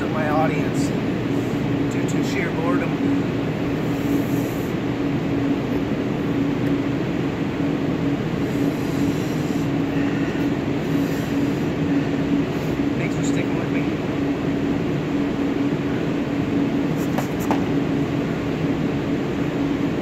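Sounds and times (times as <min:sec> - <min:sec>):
mechanical drone with low hum: 0:00.0 - 0:20.0.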